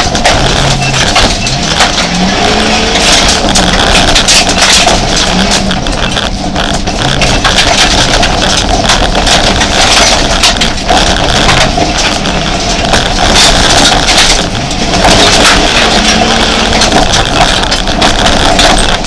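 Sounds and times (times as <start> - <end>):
car engine running hard: 0.0 - 19.0
knocks and rattles: 0.0 - 19.0.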